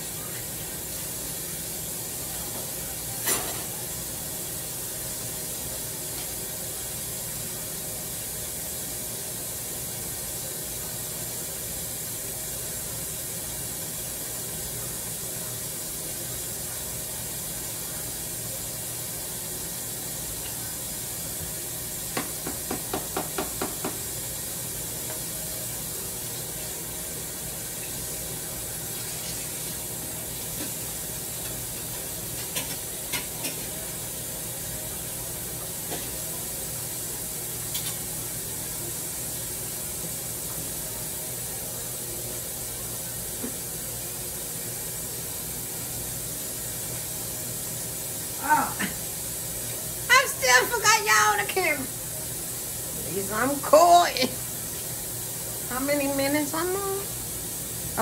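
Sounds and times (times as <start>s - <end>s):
steady hiss from stove: 0.0s - 58.0s.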